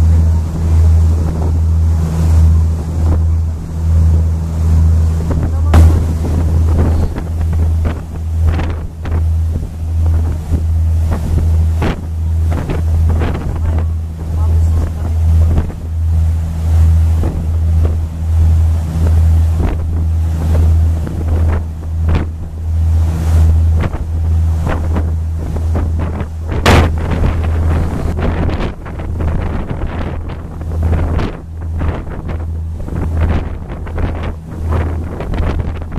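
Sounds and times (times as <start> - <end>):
boat engine droning: 0.0 - 35.9
water churning in wake: 0.0 - 35.9
wind buffeting microphone: 0.0 - 35.9.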